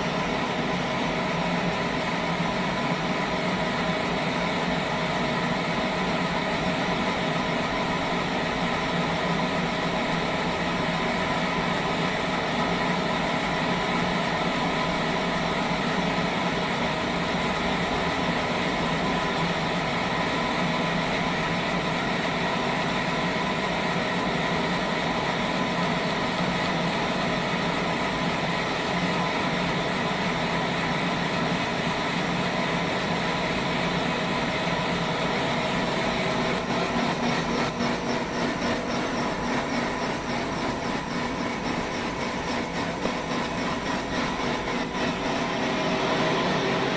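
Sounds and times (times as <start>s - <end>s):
sawmill saw humming and whining: 0.0s - 46.9s.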